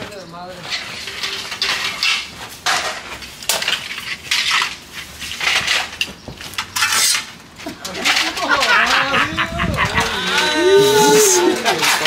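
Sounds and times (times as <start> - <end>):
scraping crunching debris: 0.0 - 12.0.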